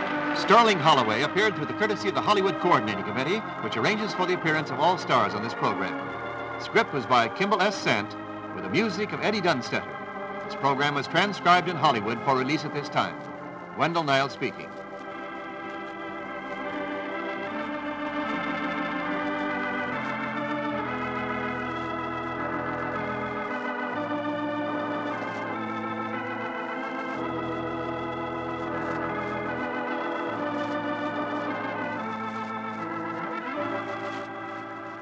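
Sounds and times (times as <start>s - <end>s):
organ chords with vibrato: 0.0s - 35.0s.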